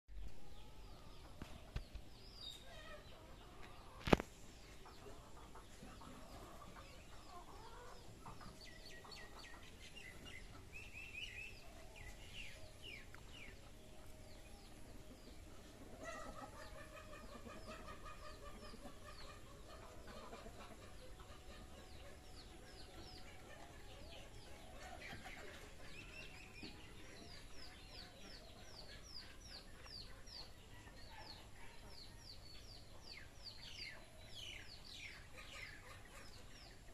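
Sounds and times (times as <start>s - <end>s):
chickens clucking: 0.2s - 36.9s.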